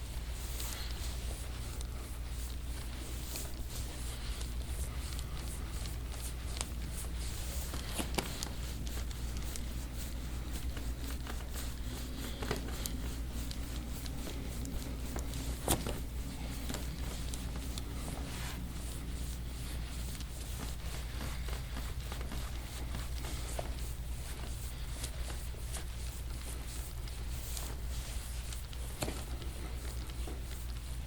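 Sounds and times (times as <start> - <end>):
hands rubbing skin and clothing: 0.0 - 31.0
steady low hum: 0.0 - 31.0.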